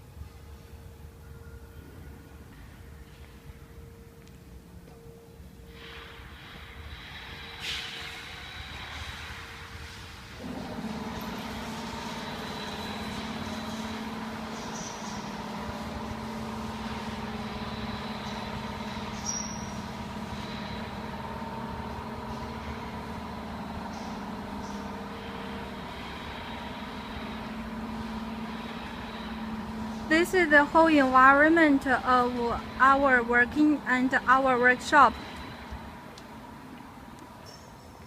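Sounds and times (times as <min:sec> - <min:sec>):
machinery hum: 0:00.0 - 0:38.0
high-pitched machine whines: 0:05.4 - 0:36.7.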